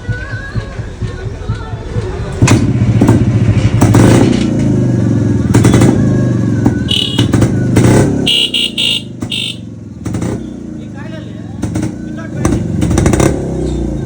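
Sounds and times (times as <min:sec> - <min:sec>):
two-stroke engine revving: 0:02.4 - 0:14.0.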